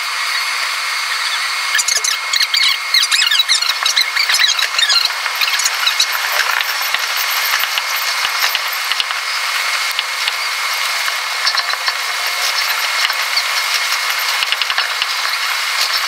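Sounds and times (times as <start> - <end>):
rapid irregular clicking: 3.0 - 16.0.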